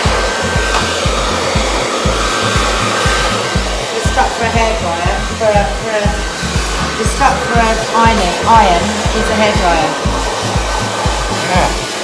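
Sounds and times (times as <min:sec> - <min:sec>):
hair dryer blowing: 0:00.0 - 0:12.0
regular low beat: 0:00.0 - 0:12.0.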